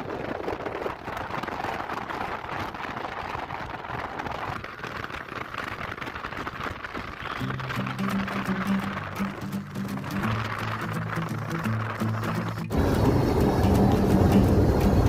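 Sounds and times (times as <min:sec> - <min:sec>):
fine crackles: 0:00.0 - 0:15.0.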